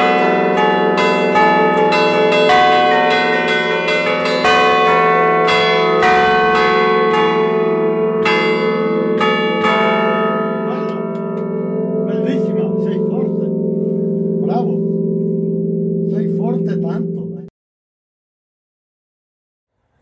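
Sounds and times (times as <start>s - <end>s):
bell ringing hum: 0.0s - 17.5s
church bells striking: 0.0s - 17.5s.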